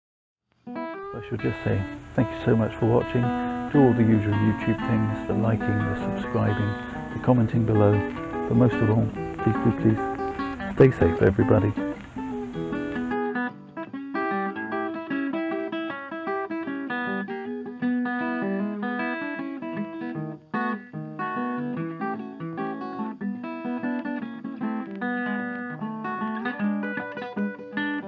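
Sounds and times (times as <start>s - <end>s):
plucked acoustic guitar: 0.7s - 28.0s.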